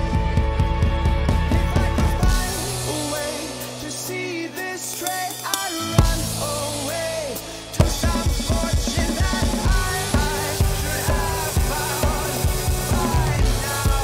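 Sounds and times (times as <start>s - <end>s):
drum kit playing: 0.0s - 14.0s
rock song recording: 0.0s - 14.0s.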